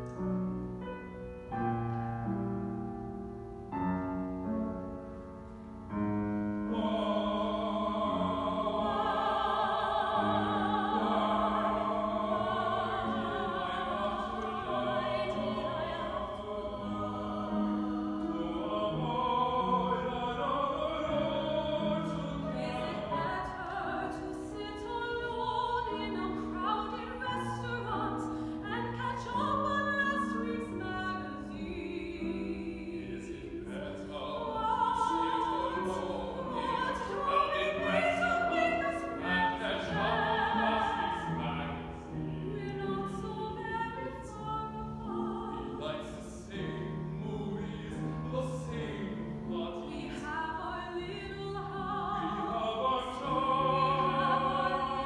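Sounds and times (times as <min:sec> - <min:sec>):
piano accompaniment: 0:00.0 - 0:55.0
woman singing opera: 0:06.7 - 0:55.0.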